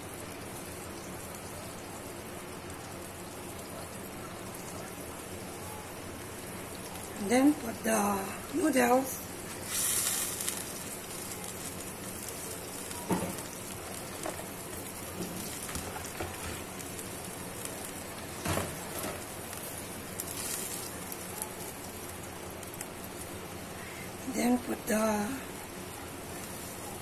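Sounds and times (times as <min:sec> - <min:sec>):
broth boiling in a wok: 0:00.0 - 0:27.0.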